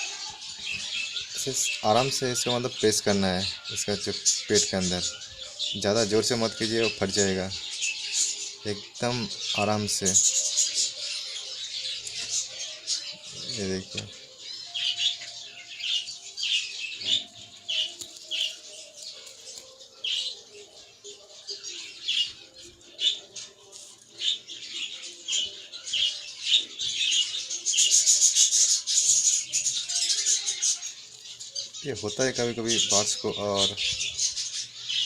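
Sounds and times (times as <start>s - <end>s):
budgerigars chirping and chattering: 0.0s - 35.0s.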